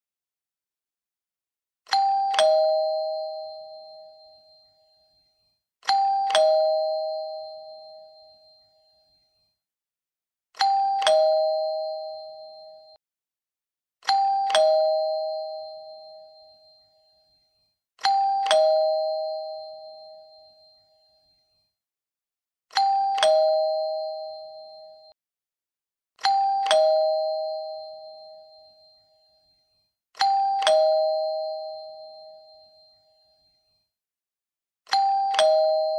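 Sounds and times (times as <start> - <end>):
two-tone doorbell chime: 1.9 - 9.6, 10.6 - 13.0, 14.0 - 21.8, 22.7 - 25.2, 26.2 - 33.9, 34.9 - 35.9.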